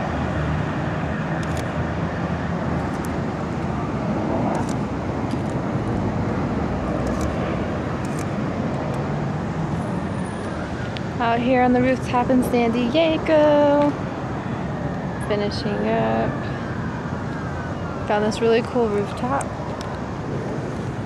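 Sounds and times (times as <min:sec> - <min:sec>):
city traffic: 0:00.0 - 0:21.0.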